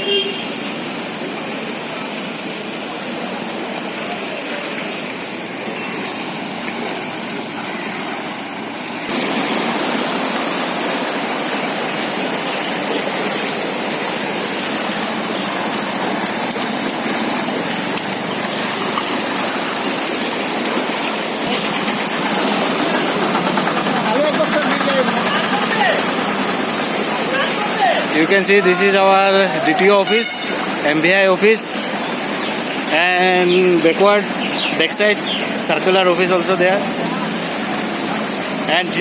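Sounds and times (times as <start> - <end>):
floodwater rushing and splashing: 0.0 - 39.0.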